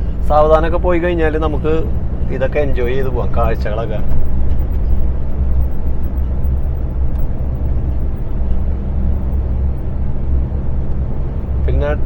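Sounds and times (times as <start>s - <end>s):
diesel engine running: 0.0s - 12.0s
road noise: 0.0s - 12.0s.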